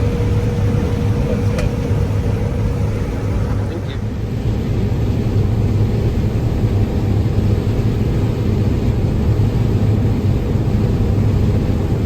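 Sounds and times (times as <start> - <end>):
combine harvester running: 0.0 - 11.4.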